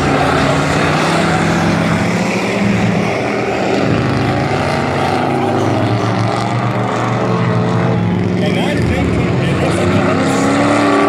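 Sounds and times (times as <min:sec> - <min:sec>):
race truck engines: 0:00.0 - 0:11.0.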